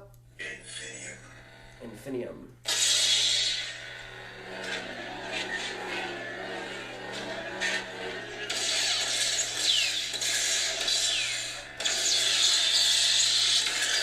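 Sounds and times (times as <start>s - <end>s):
low lightsaber hum: 2.6s - 14.0s.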